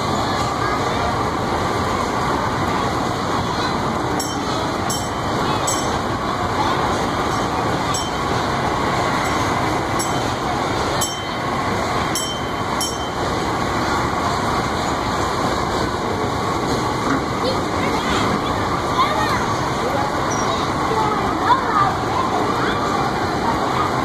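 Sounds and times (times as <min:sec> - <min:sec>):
boat ride rumbling and rattling: 0:00.0 - 0:24.0.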